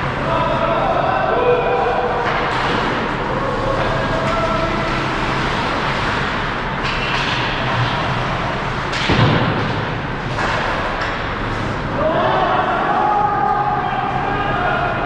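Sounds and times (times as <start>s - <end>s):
ice hockey play noise: 0.0s - 15.0s.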